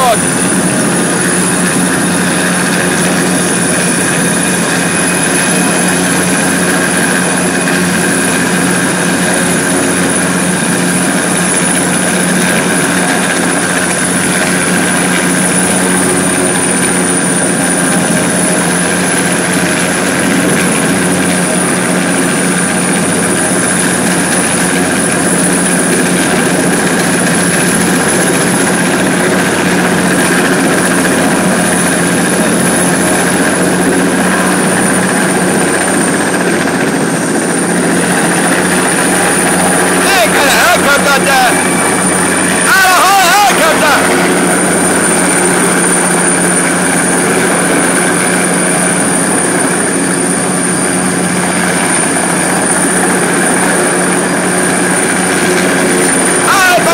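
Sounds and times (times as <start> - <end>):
helicopter hovering: 0.0 - 56.9.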